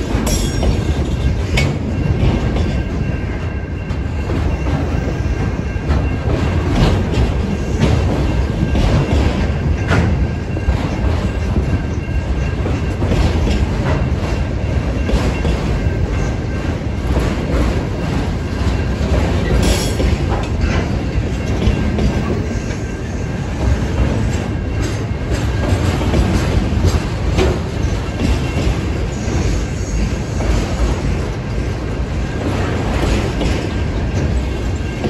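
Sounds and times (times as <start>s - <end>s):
steel wheels rumbling on rail: 0.0s - 35.0s
wheels clacking over rail joints: 0.0s - 35.0s.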